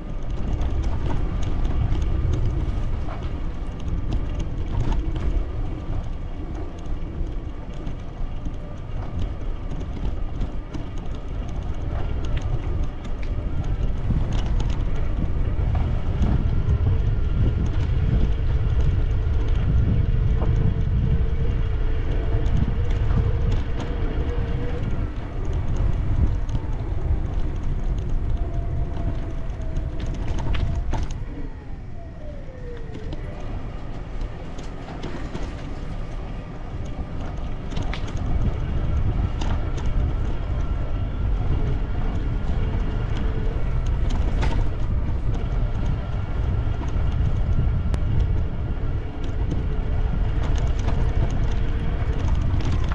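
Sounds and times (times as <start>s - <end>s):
faint outdoor ambience: 0.0s - 52.9s
wind buffeting microphone: 0.0s - 52.9s.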